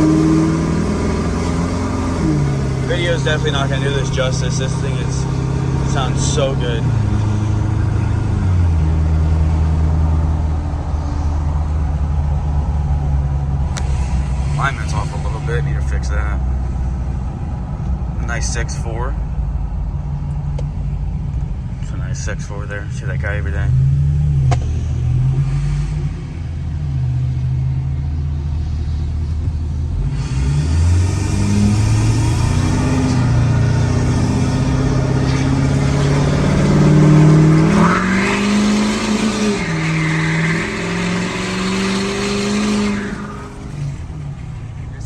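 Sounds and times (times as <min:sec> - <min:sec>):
diesel pickup exhaust droning: 0:00.0 - 0:45.0.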